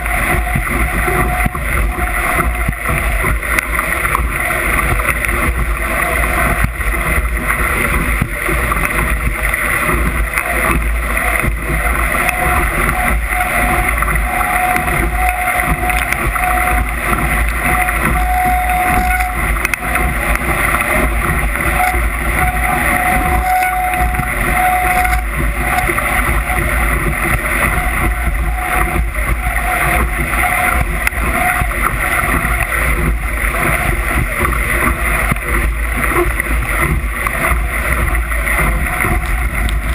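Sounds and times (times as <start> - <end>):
water rushing past hull: 0.0 - 39.9
wind buffeting microphone: 0.0 - 39.9.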